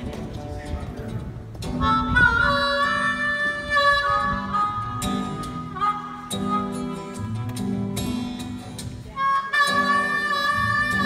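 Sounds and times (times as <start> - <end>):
acoustic guitar strumming chords: 0.8 - 11.0
harmonica melody: 1.6 - 11.0.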